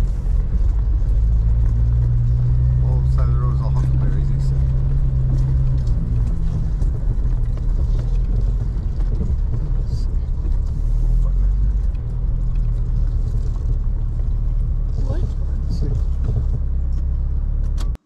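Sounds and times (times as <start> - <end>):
car engine cruising: 0.0 - 18.0
tyres rolling on dirt road: 0.0 - 18.0.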